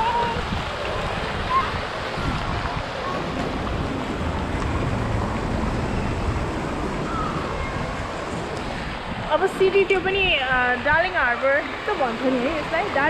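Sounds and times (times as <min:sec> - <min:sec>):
fountain water rushing and splashing: 0:00.0 - 0:13.0
wind on microphone: 0:00.0 - 0:13.0.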